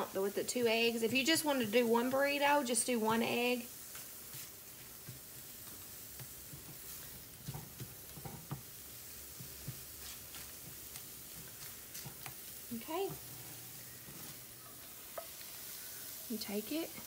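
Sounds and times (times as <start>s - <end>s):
eggs sizzling in a skillet: 0.0s - 17.0s
wooden spatula scraping a pan: 1.0s - 17.0s.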